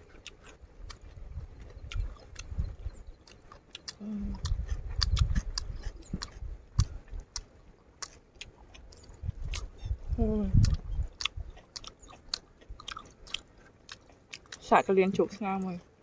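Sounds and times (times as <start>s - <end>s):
soft chewing: 0.0s - 16.0s
wet mouth clicks: 0.1s - 9.9s, 10.5s - 14.6s.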